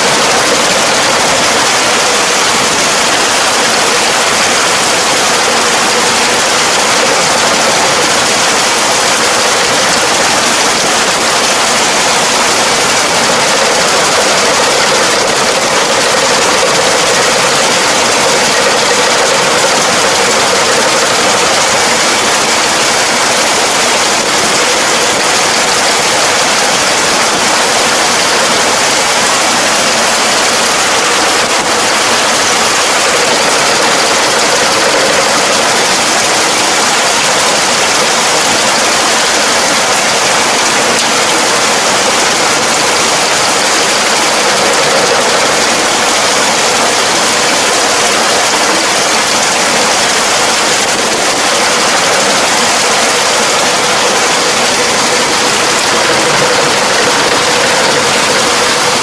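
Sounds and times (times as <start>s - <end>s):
farm machinery running: 0.0s - 59.0s.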